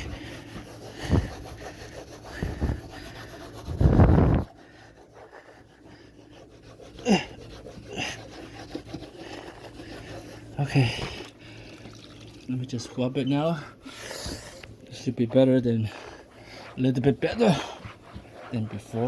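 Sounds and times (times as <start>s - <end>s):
wet towel scrubbing: 0.0s - 19.0s.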